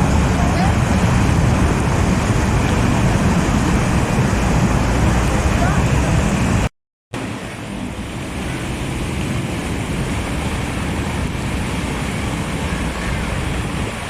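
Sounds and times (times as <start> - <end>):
low rumbling wind: 0.0 - 14.0.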